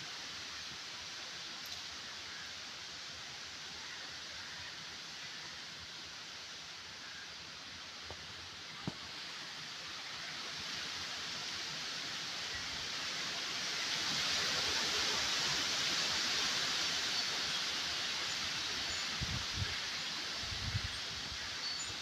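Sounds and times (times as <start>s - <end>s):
wind and rain: 0.0s - 22.0s.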